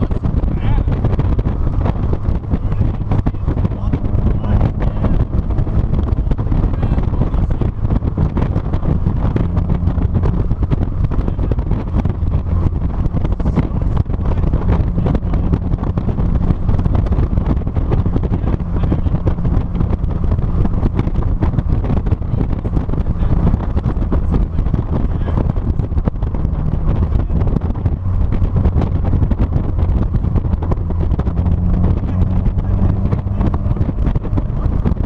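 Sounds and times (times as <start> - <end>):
car engine and road noise: 0.0 - 35.0
wind buffeting microphone: 0.0 - 35.0.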